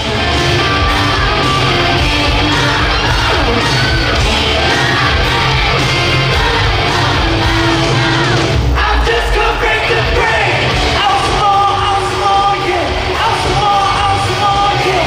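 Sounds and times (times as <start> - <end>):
heavy low beat: 0.0 - 15.0
music with sung vocals: 0.0 - 15.0.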